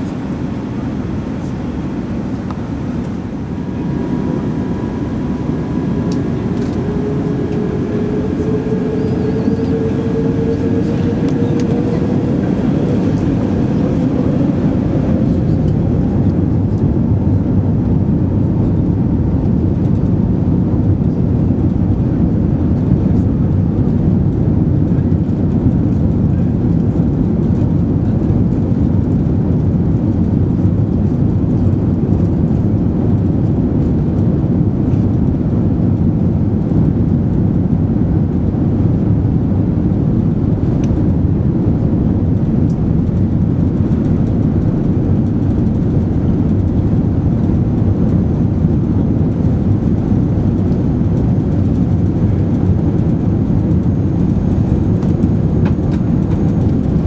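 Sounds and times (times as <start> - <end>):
airliner cabin engine and airflow rumble: 0.0 - 57.0.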